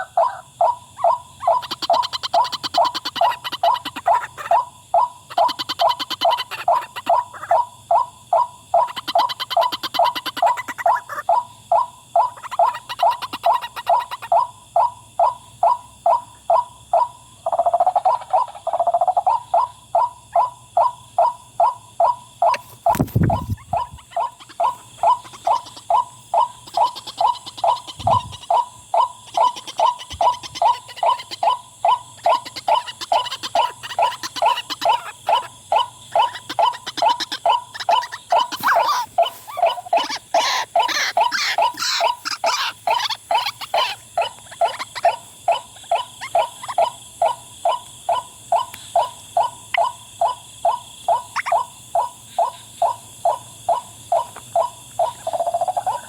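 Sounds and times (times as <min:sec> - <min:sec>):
waterhen wak-wak call: 0:00.0 - 0:14.5, 0:15.2 - 0:56.0.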